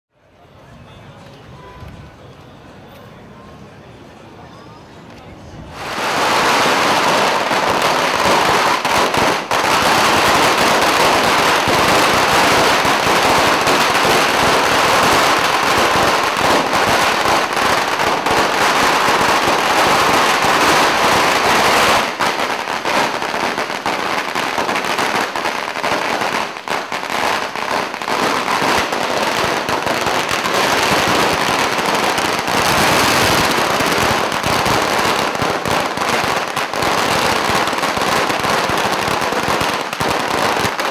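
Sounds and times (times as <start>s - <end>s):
firecrackers crackling: 5.1s - 40.9s.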